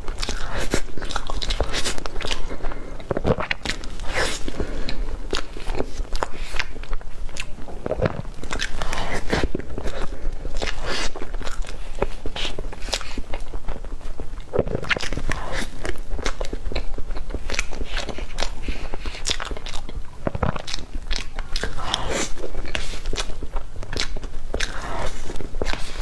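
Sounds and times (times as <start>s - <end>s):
person chewing cake: 0.0s - 26.0s.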